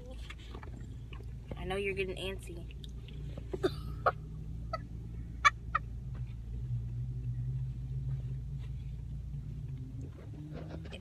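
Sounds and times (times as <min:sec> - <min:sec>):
car cabin driving hum: 0:00.0 - 0:11.0.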